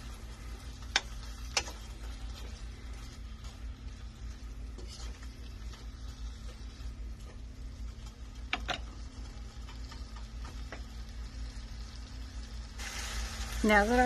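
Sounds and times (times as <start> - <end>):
steady low hum: 0.0 - 14.0
vegetables sizzling in frying pan: 0.0 - 14.0.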